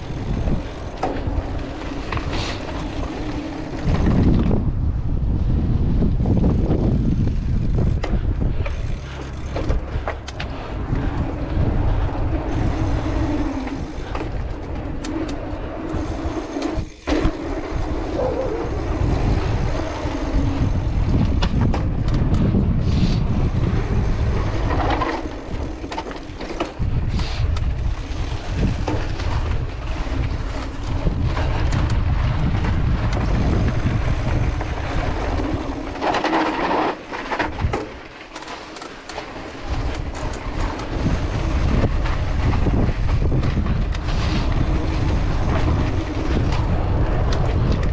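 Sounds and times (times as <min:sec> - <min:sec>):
bike knocks and rattles: 0:00.0 - 0:04.8, 0:06.0 - 0:47.9
wind buffeting microphone: 0:00.0 - 0:38.2, 0:39.1 - 0:47.9
bike tyres rolling: 0:00.0 - 0:47.9.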